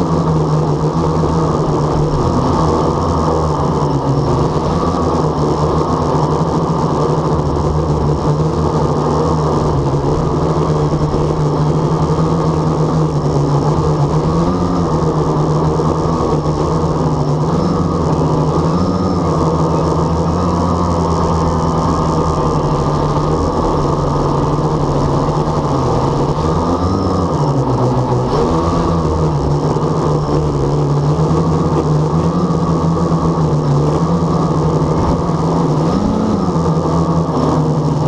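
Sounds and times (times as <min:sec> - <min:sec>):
quadcopter propellers buzzing: 0:00.0 - 0:38.0.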